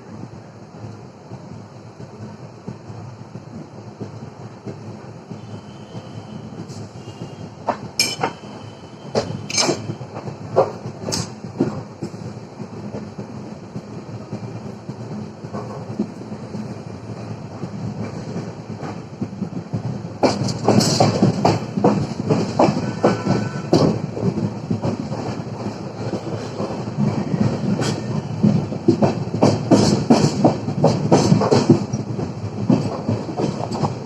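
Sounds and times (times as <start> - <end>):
clickety-clack of wheels over rail joints: 0.0 - 34.0
train wheels rumbling on track: 0.0 - 34.0.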